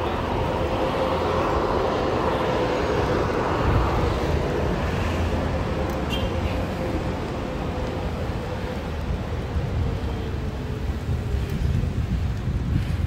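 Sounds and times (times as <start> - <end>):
bike tyres rumbling on concrete: 0.0 - 13.0
wind noise on microphone: 0.0 - 13.0.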